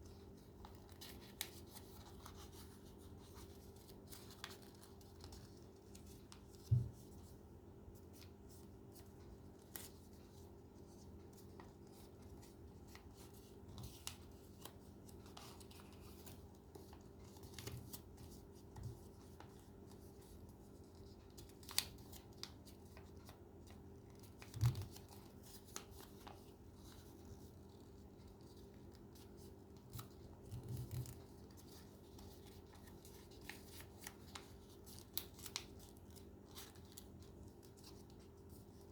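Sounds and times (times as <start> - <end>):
paper rustling and clicking: 0.2 - 7.3, 8.0 - 38.9.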